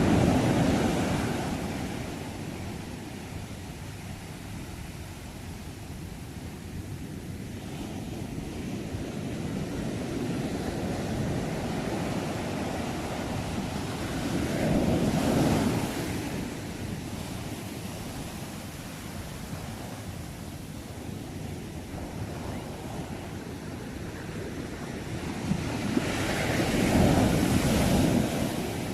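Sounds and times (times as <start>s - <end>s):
sea waves washing ashore: 0.0s - 28.9s
wind noise on microphone: 0.0s - 28.9s.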